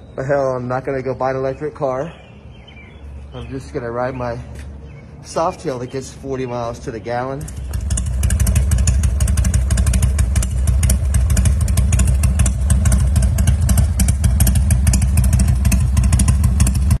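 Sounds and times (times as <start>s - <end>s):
motorcycle engine idling: 2.3s - 17.0s.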